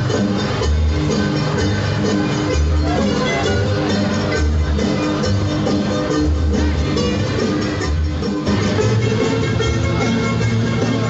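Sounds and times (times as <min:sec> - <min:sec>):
loud music with bass pulse: 0:00.0 - 0:11.0.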